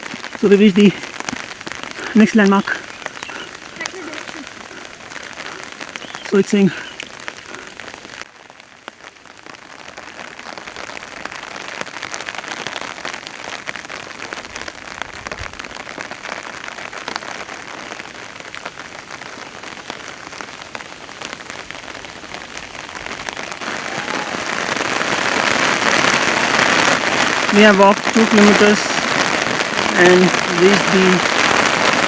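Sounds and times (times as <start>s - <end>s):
heavy rain hiss: 0.0s - 32.0s
raindrops ticking on umbrella: 0.0s - 32.0s.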